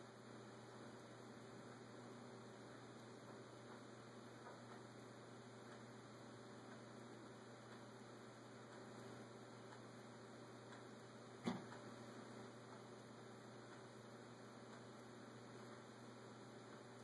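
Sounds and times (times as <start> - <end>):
background hiss: 0.0 - 17.0
faint electrical hum: 0.0 - 17.0.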